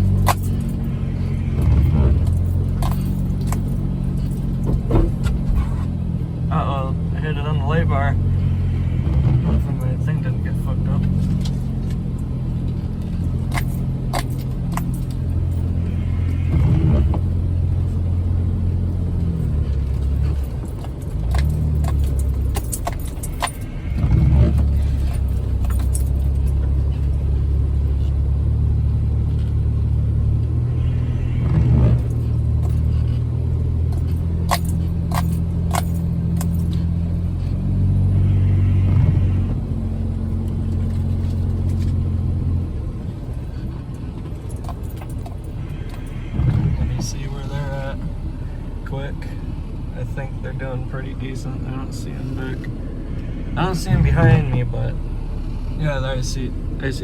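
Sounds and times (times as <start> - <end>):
sharp clicks and rattles: 0.0 - 30.9, 31.5 - 37.9, 38.9 - 57.0
engine pulling at low speed: 0.0 - 57.0.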